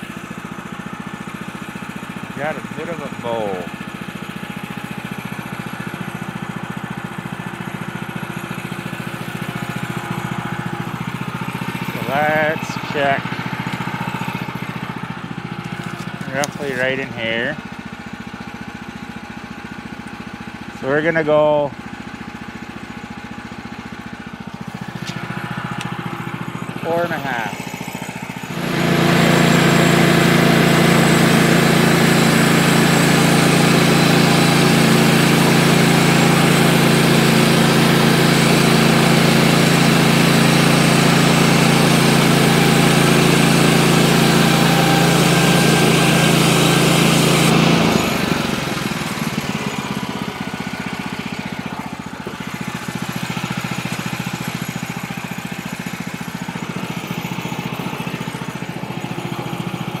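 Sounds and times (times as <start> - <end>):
bandsaw mill engine drone: 0.0 - 60.0.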